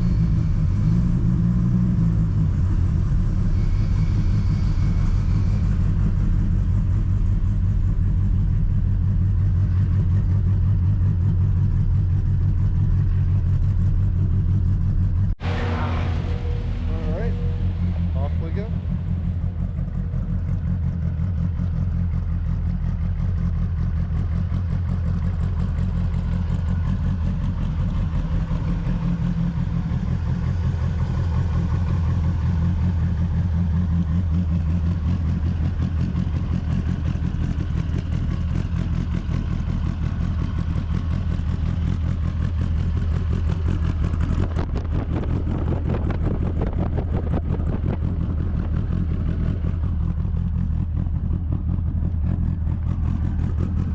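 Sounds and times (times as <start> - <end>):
car engine droning: 0.0 - 53.9.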